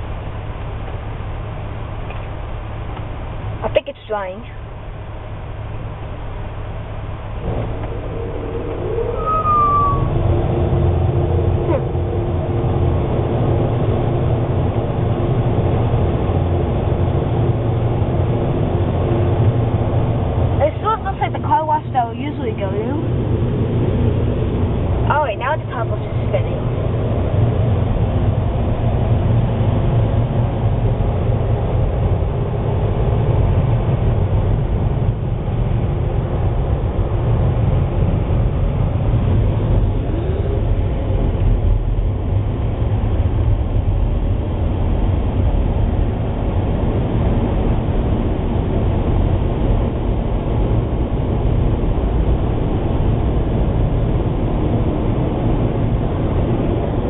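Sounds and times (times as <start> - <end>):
car wash air dryers blasting: 4.6 - 57.0.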